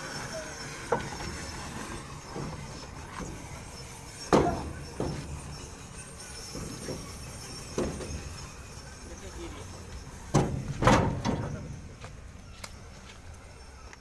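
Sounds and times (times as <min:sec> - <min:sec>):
steel bar clanking on wheel: 0:00.0 - 0:12.0.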